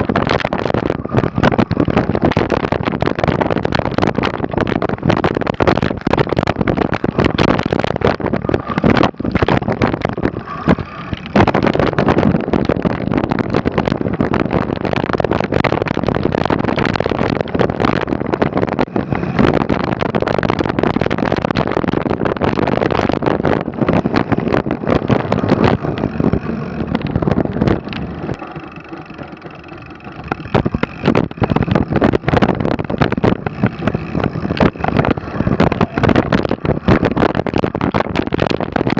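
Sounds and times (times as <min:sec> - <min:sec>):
bike rattling and clattering: 0:00.0 - 0:38.9
wind on microphone: 0:00.0 - 0:38.9.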